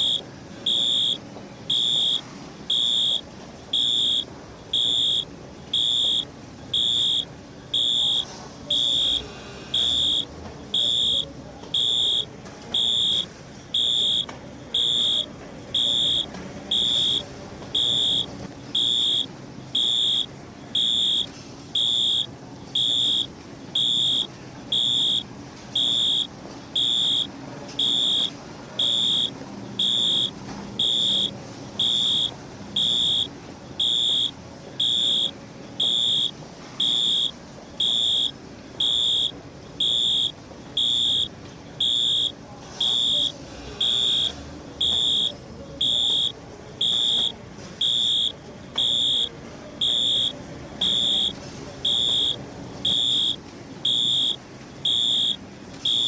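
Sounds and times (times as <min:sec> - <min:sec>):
background murmur: 0:00.0 - 0:56.0
fire alarm beeping: 0:00.0 - 0:56.0.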